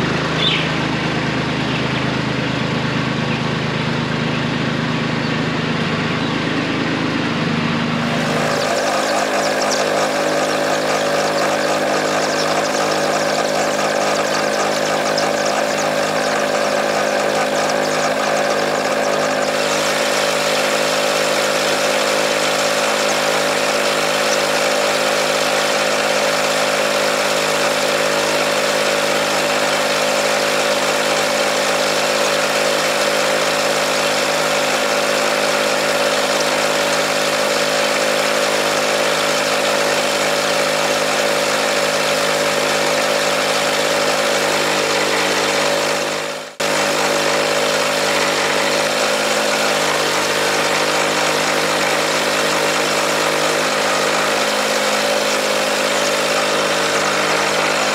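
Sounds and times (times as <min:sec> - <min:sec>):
steady engine drone: 0:00.0 - 0:57.9.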